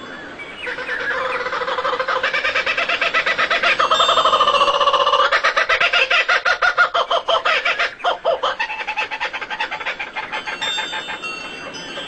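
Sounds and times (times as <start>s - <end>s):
bird chattering call: 0.6s - 12.0s.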